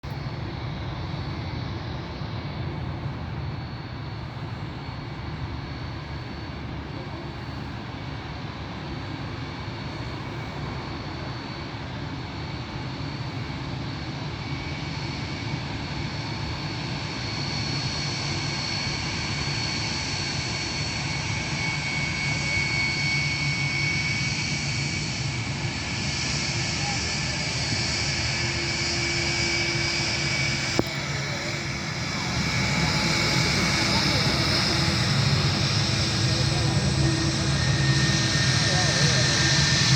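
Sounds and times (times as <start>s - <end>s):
jet engines roaring and whining: 0.1s - 39.9s.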